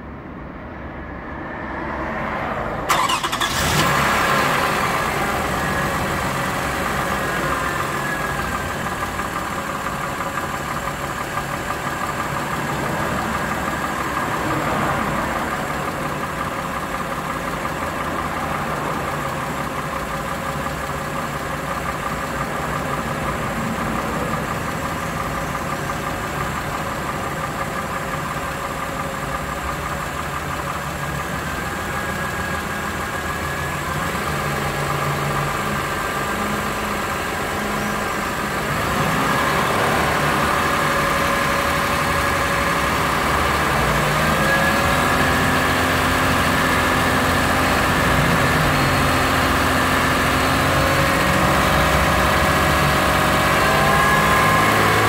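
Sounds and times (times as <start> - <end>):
car engine idling: 2.9 - 55.0
engine knock: 4.5 - 55.0.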